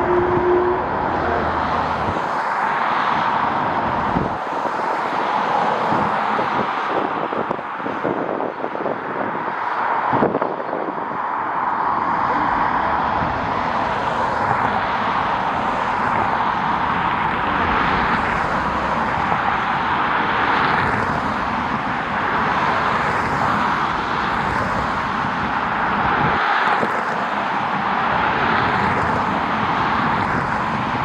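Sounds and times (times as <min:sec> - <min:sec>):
jet engines roaring: 0:00.0 - 0:08.5, 0:09.2 - 0:31.0.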